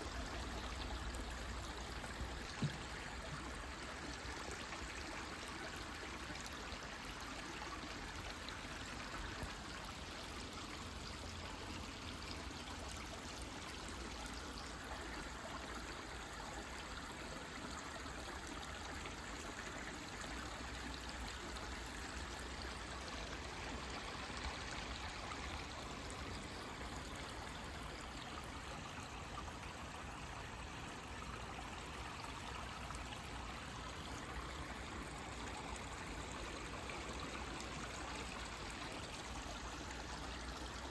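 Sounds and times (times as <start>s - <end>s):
forest stream running: 0.0s - 40.9s.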